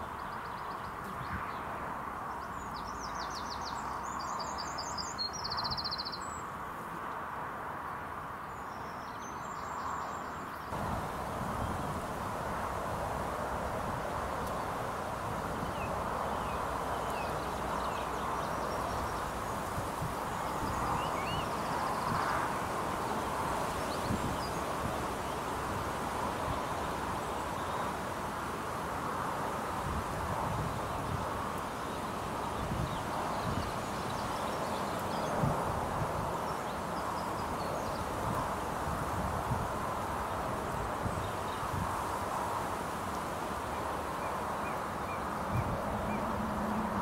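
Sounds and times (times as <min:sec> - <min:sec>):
background hiss: 0:02.4 - 0:47.0.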